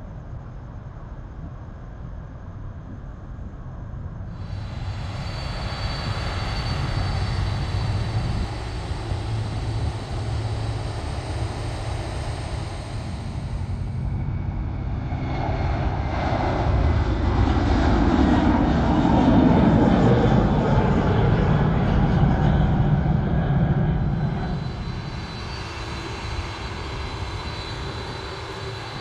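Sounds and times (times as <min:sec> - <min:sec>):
deep rumble: 0:00.0 - 0:29.0
high fan whine: 0:00.0 - 0:29.0
jet engines at takeoff: 0:00.0 - 0:29.0.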